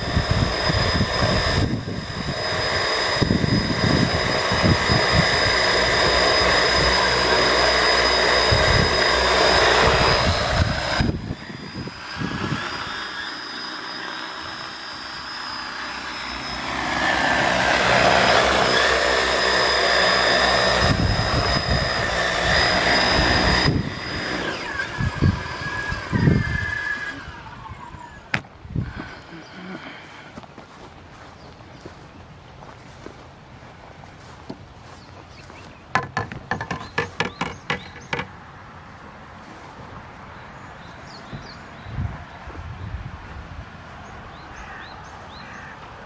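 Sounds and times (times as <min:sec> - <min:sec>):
drone rotors whining: 0:00.0 - 0:38.4, 0:40.5 - 0:46.0.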